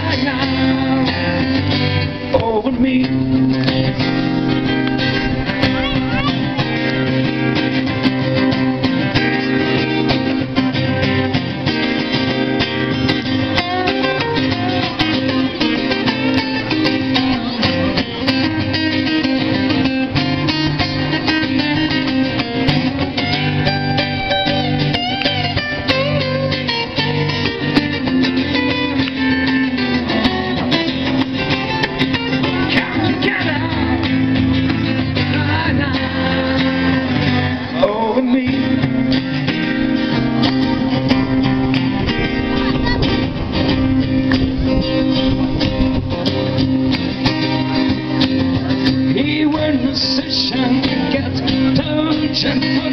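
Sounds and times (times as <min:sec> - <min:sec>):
acoustic guitars strumming: 0:00.0 - 0:52.9.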